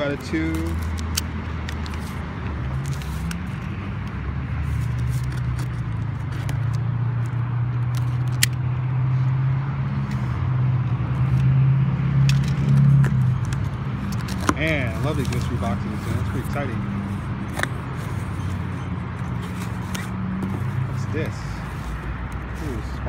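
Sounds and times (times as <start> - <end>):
cardboard clicks and scrapes: 0.5 - 8.6, 12.3 - 23.0.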